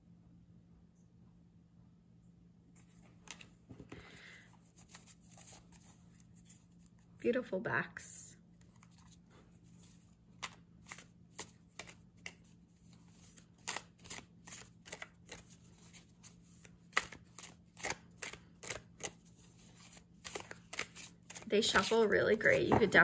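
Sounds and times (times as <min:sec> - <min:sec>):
cards being shuffled: 0:02.8 - 0:07.1, 0:08.5 - 0:23.0.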